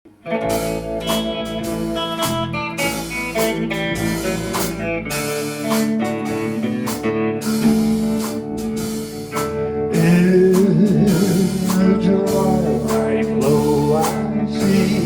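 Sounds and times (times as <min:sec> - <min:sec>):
plucked guitar notes: 0:00.1 - 0:15.0.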